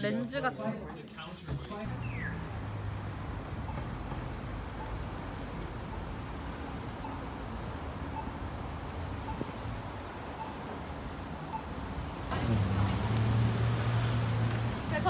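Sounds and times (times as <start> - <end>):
passing cars rumble: 1.8 - 15.0.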